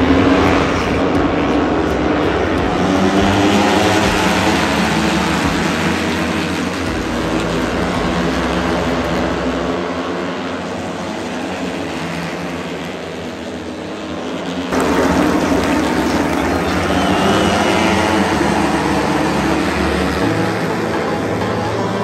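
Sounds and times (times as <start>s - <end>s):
racing motorcycles at full throttle: 0.0s - 22.0s.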